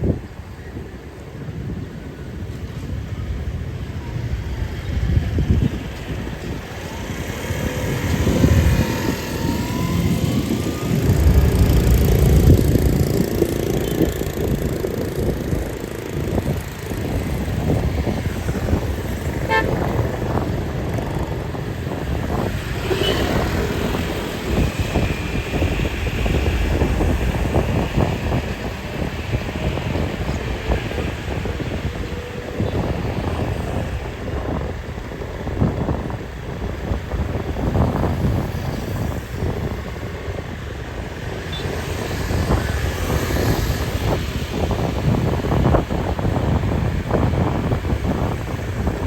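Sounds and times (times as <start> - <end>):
motorbike engines passing: 3.4 - 49.0.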